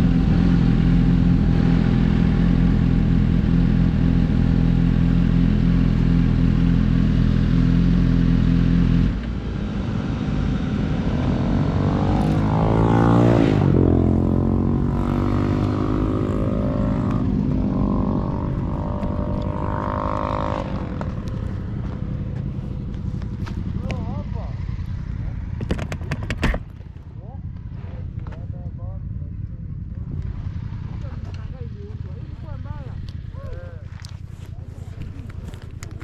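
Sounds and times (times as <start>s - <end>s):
motorcycle engines on road: 0.0s - 36.0s.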